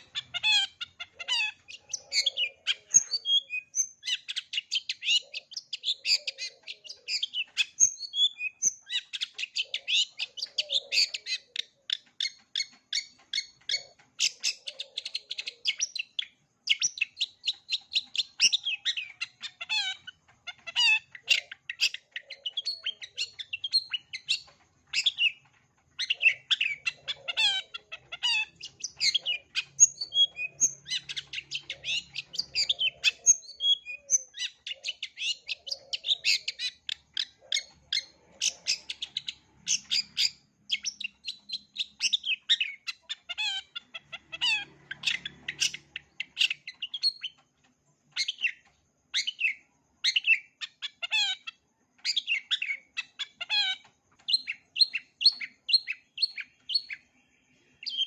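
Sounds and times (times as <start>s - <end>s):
bird singing chattering song: 0.0s - 58.0s.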